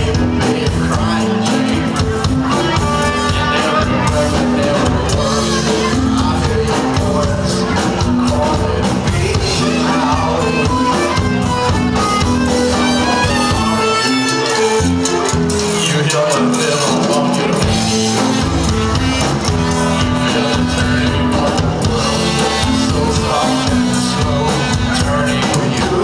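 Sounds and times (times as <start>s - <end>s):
live band playing dance music: 0.0s - 26.0s.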